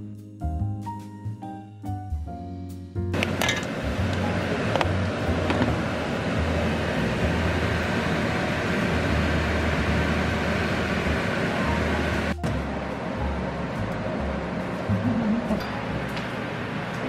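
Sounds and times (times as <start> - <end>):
exhaust fan running: 3.1 - 17.0.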